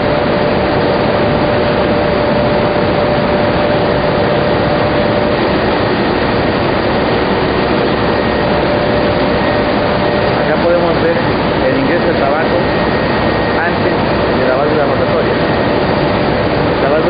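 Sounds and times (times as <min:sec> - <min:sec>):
machinery humming steadily: 0:00.0 - 0:17.0.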